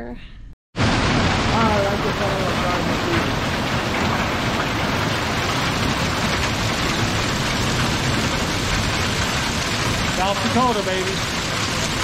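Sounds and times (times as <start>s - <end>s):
heavy rain on gravel: 0.8s - 12.0s.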